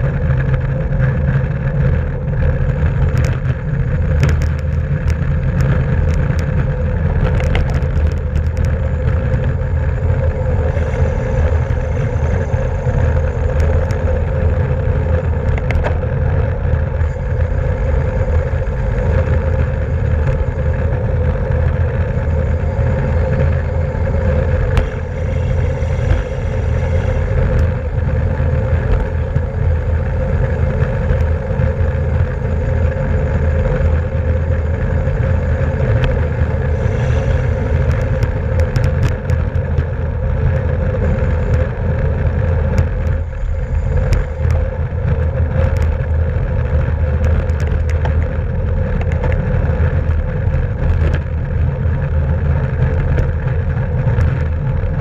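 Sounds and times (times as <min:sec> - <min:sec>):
wind rush and road noise: 0:00.0 - 0:55.0.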